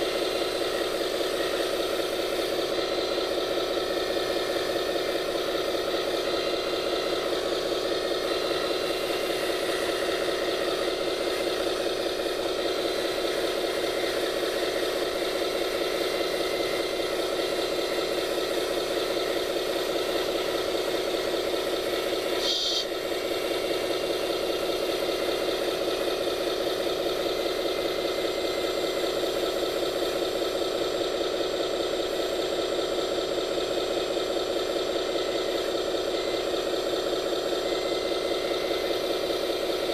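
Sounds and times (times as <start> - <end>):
model machine mechanical hum and rattle: 0.0 - 39.9.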